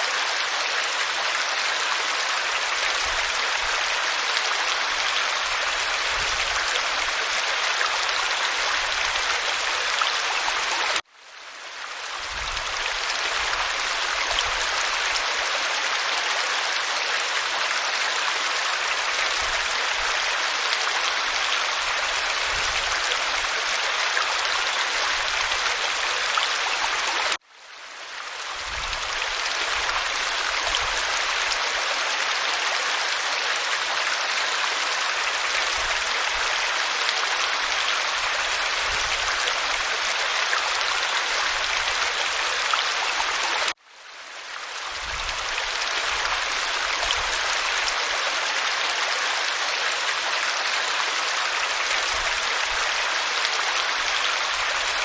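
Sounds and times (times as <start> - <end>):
waterfall rushing over rock: 0.0 - 11.0, 12.0 - 27.4, 28.5 - 43.8, 44.6 - 55.0.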